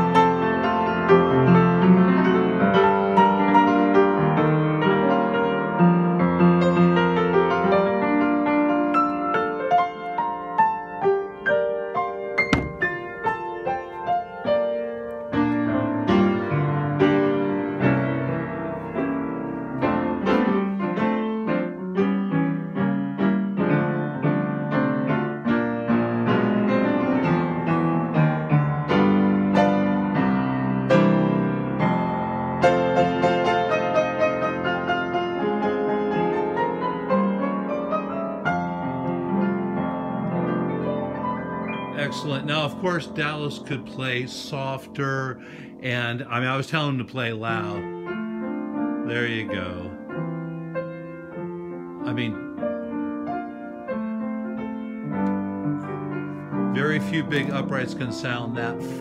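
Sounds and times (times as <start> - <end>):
upright piano playing chords: 0.0 - 59.0.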